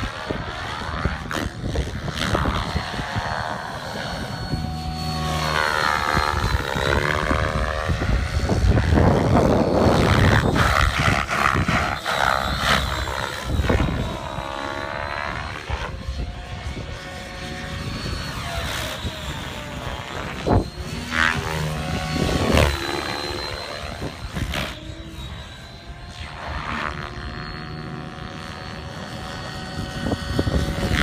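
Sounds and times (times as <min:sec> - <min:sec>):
helicopter rotor whining: 0:00.0 - 0:31.0.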